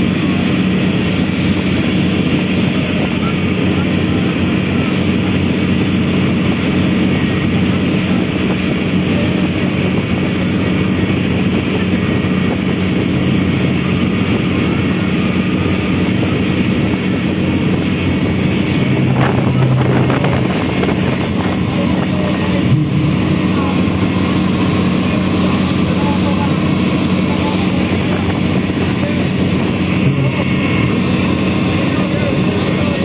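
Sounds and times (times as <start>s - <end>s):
boat engine droning: 0.0s - 33.0s
water splashing against hull: 0.0s - 33.0s.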